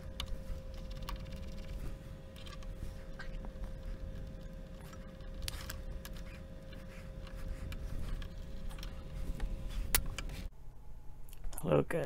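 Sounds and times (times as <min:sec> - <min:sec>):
small clicks and knocks of parts: 0:00.0 - 0:10.4
low background hum: 0:00.0 - 0:12.0.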